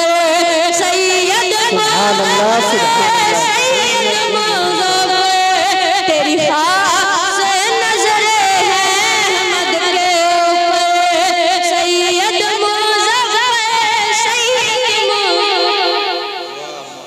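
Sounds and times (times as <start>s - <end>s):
boy singing: 0.8s - 15.8s.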